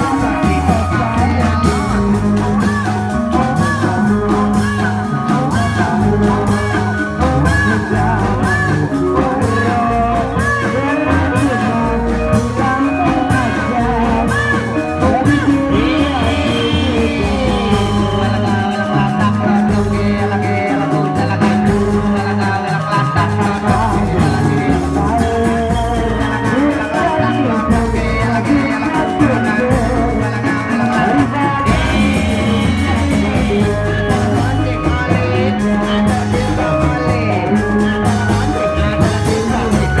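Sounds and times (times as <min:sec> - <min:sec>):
percussion beat: 0:00.0 - 0:40.0
person singing: 0:00.0 - 0:40.0
wavering melodic lines: 0:00.0 - 0:40.0.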